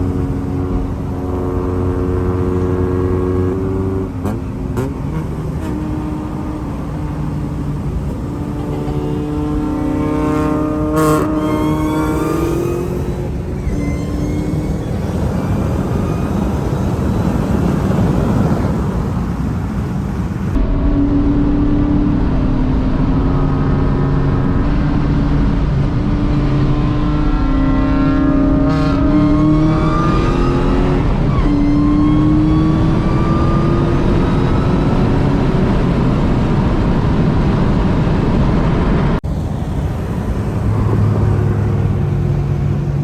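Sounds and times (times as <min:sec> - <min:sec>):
car engine accelerating through gears: 0:00.0 - 0:43.0
supercharger whine: 0:00.0 - 0:43.0.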